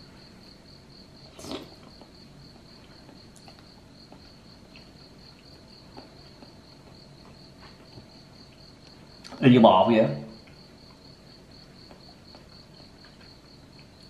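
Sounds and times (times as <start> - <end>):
insect chirping: 0.0 - 14.0
faint chewing clicks: 1.3 - 9.4, 10.4 - 14.0.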